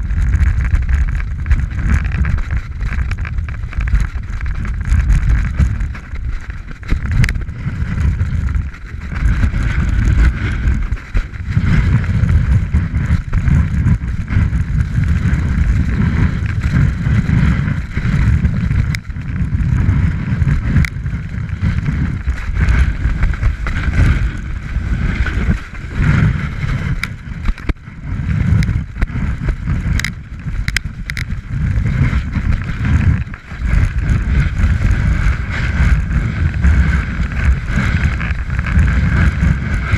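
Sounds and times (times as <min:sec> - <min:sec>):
snowboard scraping over snow: 0:00.0 - 0:39.9
wind buffeting microphone: 0:00.0 - 0:39.9.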